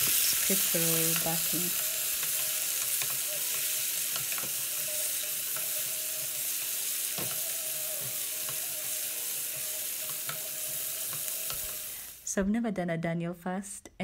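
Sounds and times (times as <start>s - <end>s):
beans sizzling in oil: 0.0s - 12.3s.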